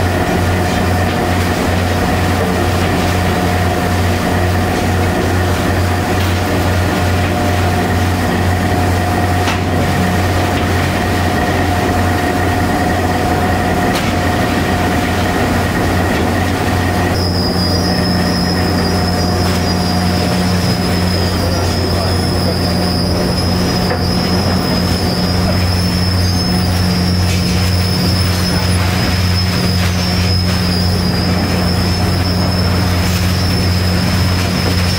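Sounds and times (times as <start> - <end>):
gear drive squealing whine: 0.0 - 34.9
industrial machinery hum: 0.0 - 34.9.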